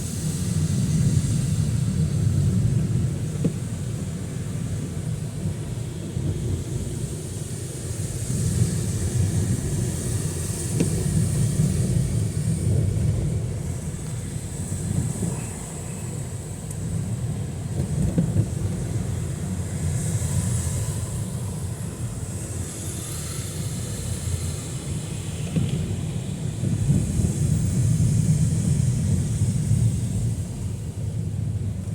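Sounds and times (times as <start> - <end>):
heavy rain low rumble: 0.0 - 31.9
high rain hiss: 0.0 - 31.9.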